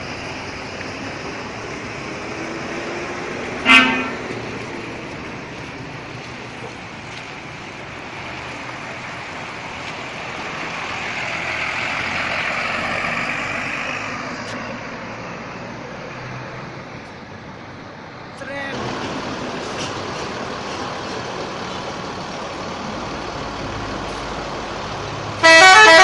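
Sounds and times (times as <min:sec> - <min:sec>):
bus driving past: 0:00.0 - 0:26.0.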